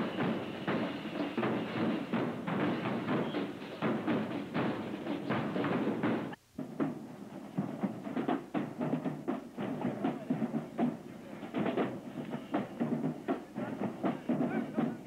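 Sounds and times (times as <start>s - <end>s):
marching drumline cadence: 0.0s - 15.0s.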